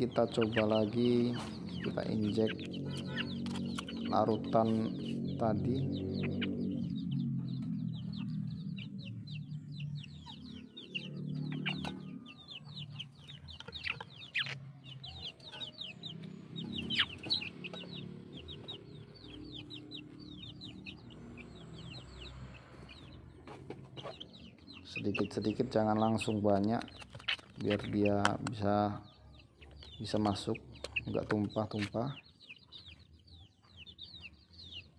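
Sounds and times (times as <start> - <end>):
chickens clucking: 0.0 - 34.9
chickens peeping: 0.0 - 34.9.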